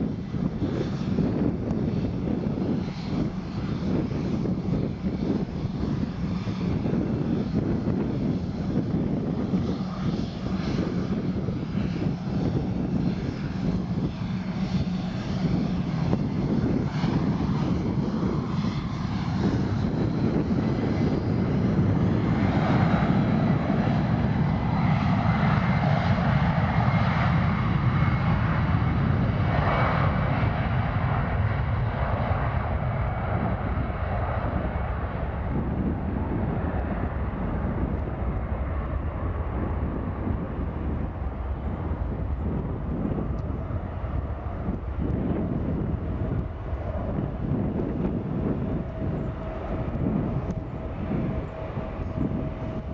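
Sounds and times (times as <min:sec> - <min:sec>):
jet engines taxiing: 0:00.0 - 0:52.9.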